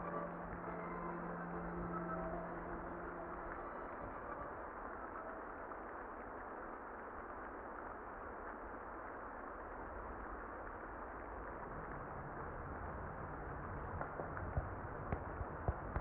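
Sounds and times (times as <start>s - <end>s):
muffled rain: 0.0s - 16.0s.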